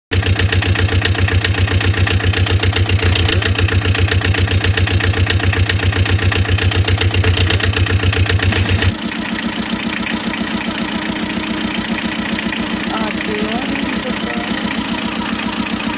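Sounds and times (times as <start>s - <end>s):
engine idling with chugging pulse: 0.1s - 15.9s.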